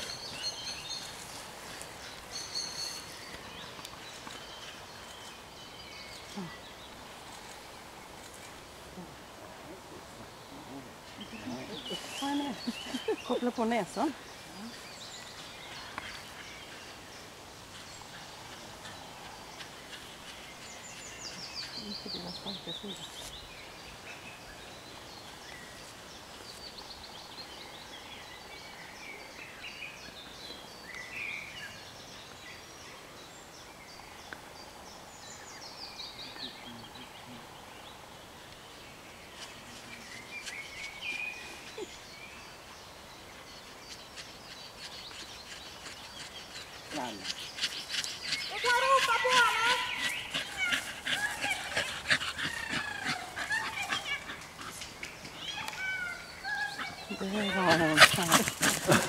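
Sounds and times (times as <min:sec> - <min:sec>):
songbirds trilling: 0:00.0 - 0:59.0.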